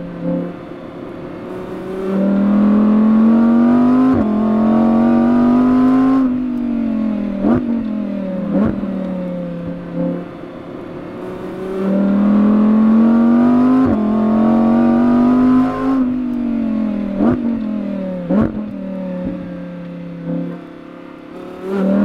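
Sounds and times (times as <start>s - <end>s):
car engine accelerating hard: 0.0s - 22.0s
engine rev blips: 0.0s - 22.0s.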